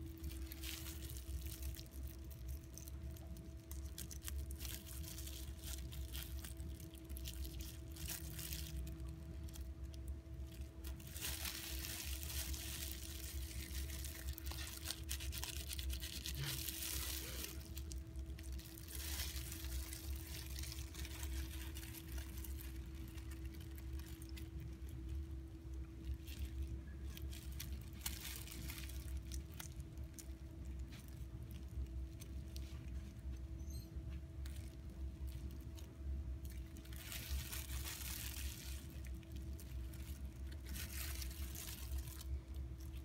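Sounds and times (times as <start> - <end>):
plastic gloves and paper crinkling: 0.0 - 43.0
steady low hum: 0.0 - 43.0.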